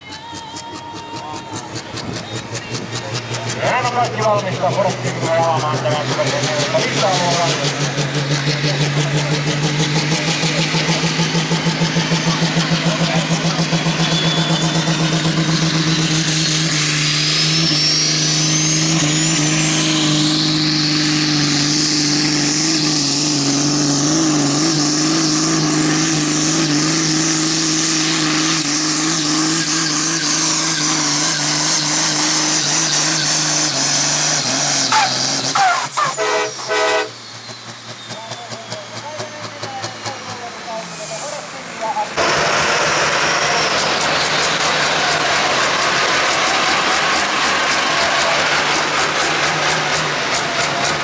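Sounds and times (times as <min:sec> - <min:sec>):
engine whine: 0:00.0 - 0:51.0
tractor engine running flat out: 0:00.0 - 0:51.0.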